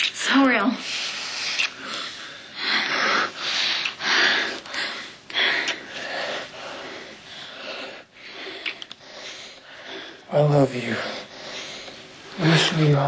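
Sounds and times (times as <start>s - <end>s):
couple breathing heavily kissing: 0.0s - 10.3s, 11.1s - 13.0s.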